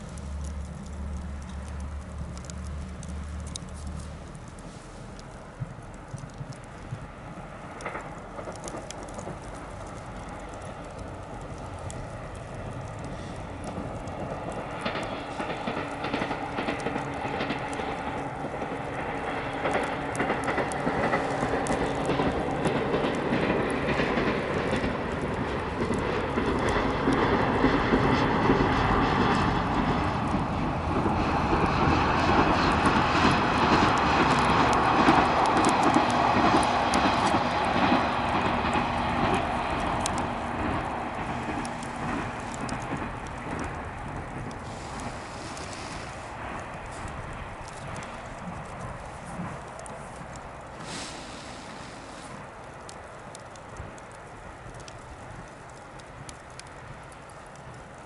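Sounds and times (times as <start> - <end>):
electric train rumbling past: 0.0 - 55.0
bonfire crackling: 0.0 - 58.0.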